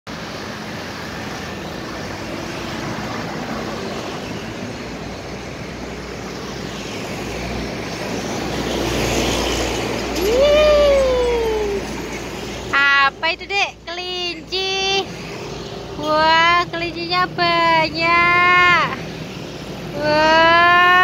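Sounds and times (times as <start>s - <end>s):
road traffic rumble: 0.1s - 21.0s.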